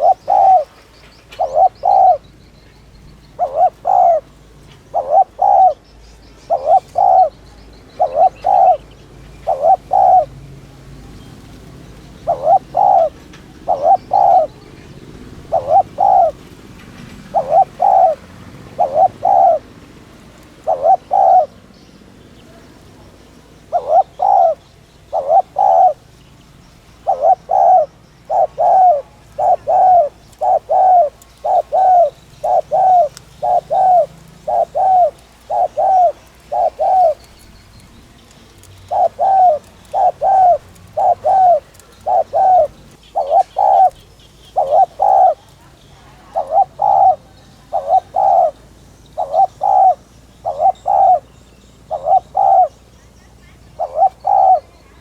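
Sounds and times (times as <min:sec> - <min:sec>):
dove cooing: 0:00.0 - 0:10.4, 0:11.1 - 0:55.0.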